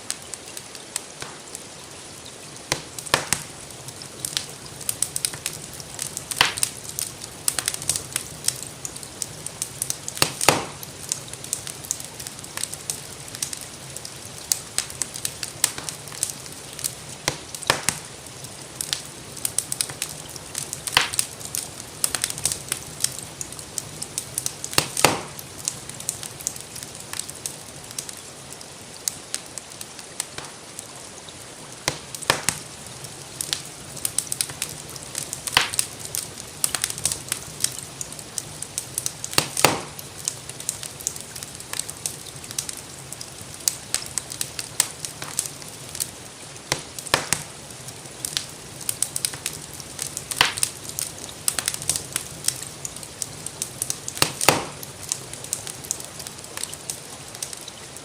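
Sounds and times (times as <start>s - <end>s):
soft rain hiss: 0.0s - 58.0s
wood fire crackling and popping: 0.0s - 58.0s.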